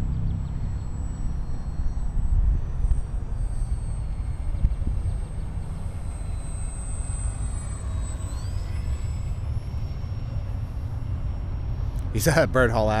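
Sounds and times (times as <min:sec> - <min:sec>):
model airplane motor whine: 0:00.0 - 0:13.0.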